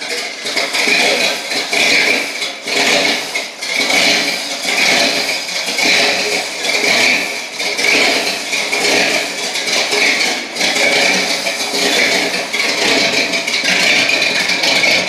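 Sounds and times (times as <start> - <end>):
car engine idling with a rattle: 0.0 - 15.0.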